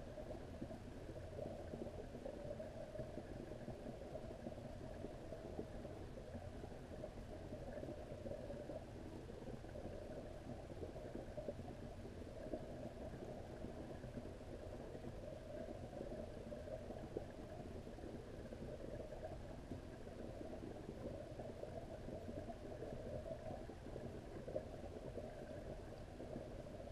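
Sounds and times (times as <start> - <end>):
faint ticks: 0.0 - 26.9
low underwater rumble and hiss: 0.0 - 26.9.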